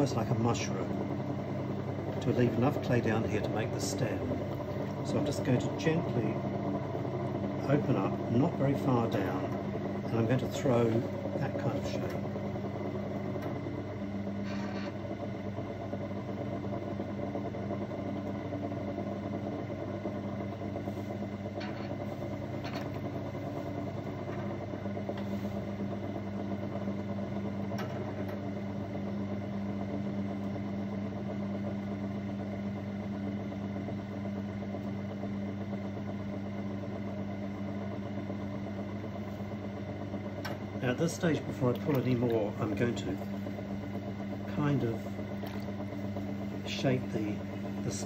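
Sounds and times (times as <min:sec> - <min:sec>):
potter's wheel motor humming: 0:00.0 - 0:48.0.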